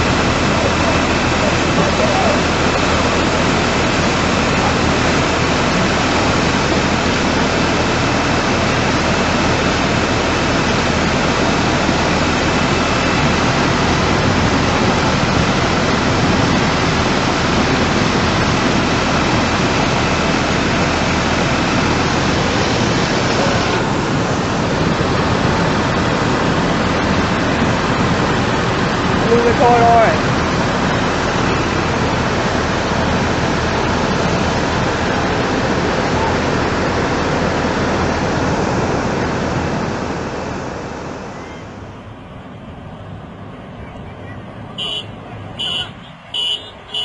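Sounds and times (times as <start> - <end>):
flood water rushing: 0.0 - 47.0.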